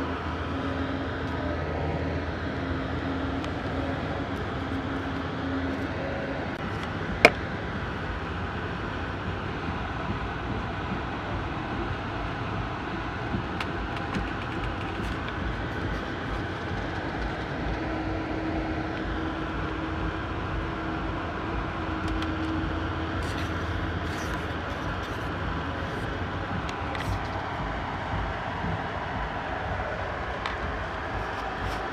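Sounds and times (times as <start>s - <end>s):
train car rumbling on track: 0.0s - 31.9s.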